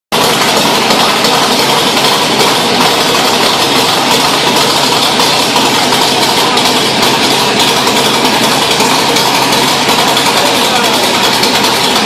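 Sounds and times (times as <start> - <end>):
car engine idling loudly: 0.1 - 12.0.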